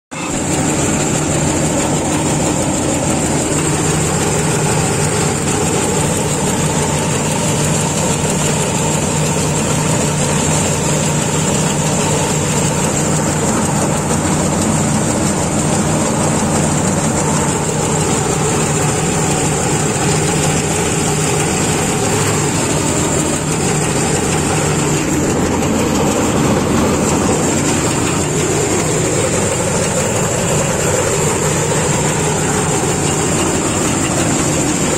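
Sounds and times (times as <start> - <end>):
combine harvester engine hum: 0.1 - 34.9.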